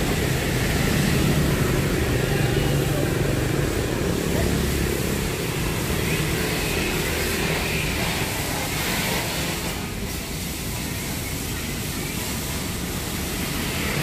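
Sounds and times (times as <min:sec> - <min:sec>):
passing vehicles rumble: 0:00.0 - 0:14.0.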